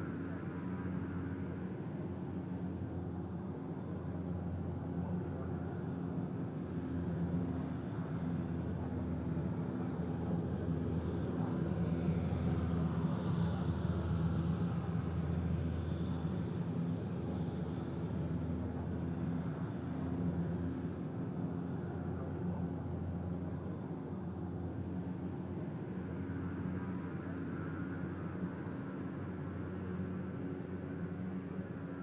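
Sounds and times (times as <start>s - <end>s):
aircraft engine drone: 0.0s - 32.0s.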